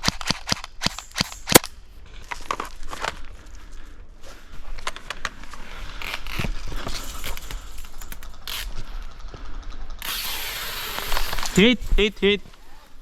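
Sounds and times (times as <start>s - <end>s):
clothing and gear rustling: 2.0s - 13.0s.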